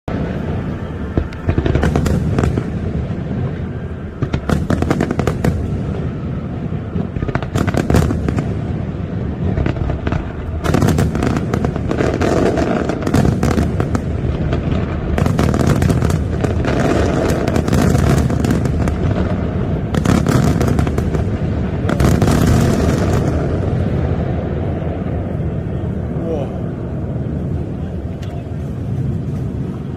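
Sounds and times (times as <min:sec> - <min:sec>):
deep rumble: 0:00.1 - 0:29.9
fireworks crackling bangs: 0:00.1 - 0:29.9.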